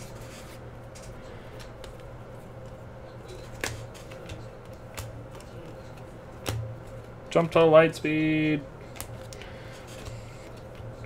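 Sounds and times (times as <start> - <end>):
steady low hum: 0.0 - 11.0
trading cards sliding and clicking: 0.0 - 11.0.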